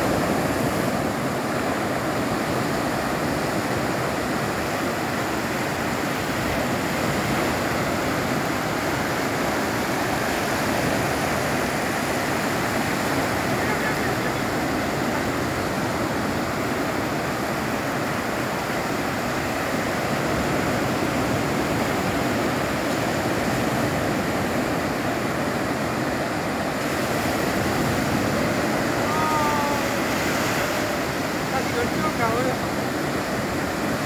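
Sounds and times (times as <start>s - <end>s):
sea surf breaking: 0.0s - 34.0s.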